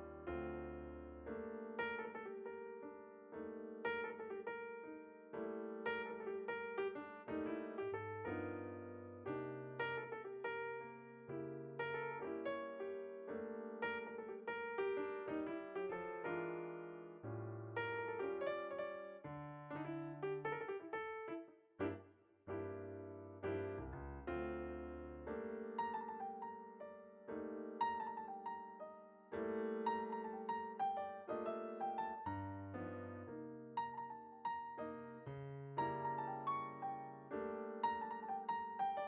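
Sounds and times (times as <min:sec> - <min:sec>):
gentle solo piano music: 0:00.0 - 0:39.0.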